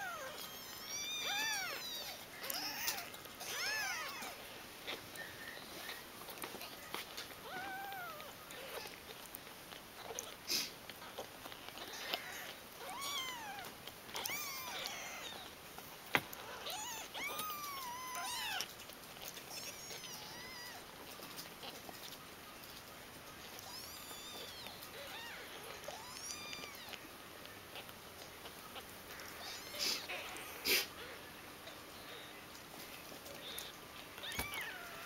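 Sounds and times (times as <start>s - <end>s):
kittens mewing: 0.0s - 9.3s, 10.0s - 15.6s, 16.2s - 22.1s, 23.4s - 32.4s, 33.2s - 35.0s.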